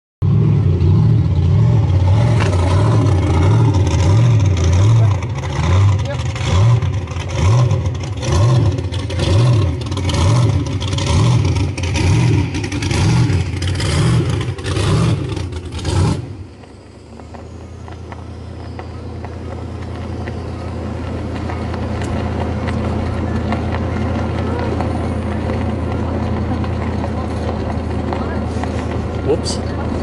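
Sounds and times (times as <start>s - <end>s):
pulsing vehicle engine noise: 0.2s - 30.0s.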